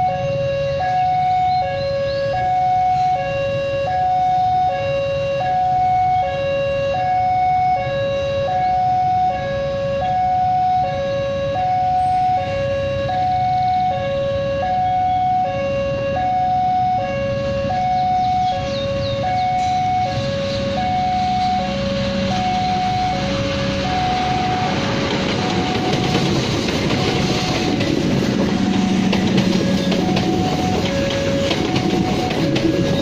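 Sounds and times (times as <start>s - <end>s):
level crossing two-tone alarm: 0.0s - 33.0s.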